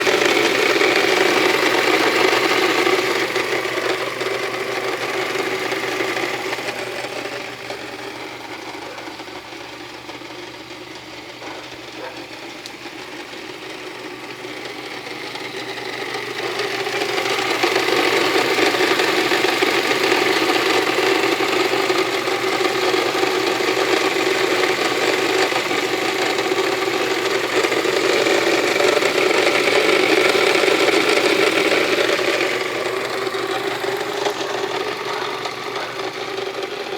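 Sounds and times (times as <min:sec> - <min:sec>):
car engine running: 0:00.0 - 0:36.9
engine rattling: 0:00.0 - 0:36.9.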